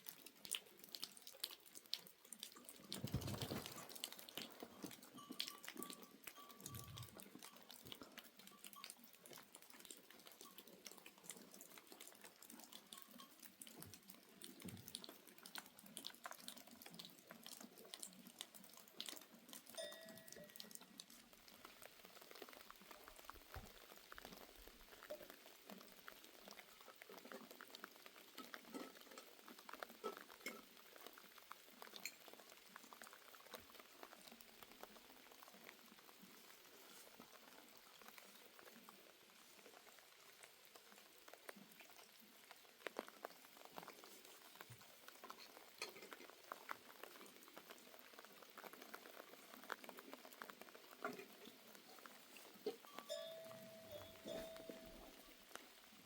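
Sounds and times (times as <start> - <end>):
faint rain patter with drips: 0.0 - 56.0.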